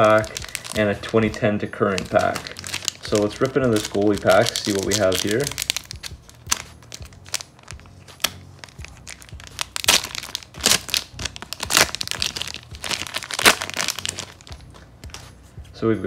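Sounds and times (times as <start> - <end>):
plastic wrapper tearing and crinkling: 0.0 - 15.3.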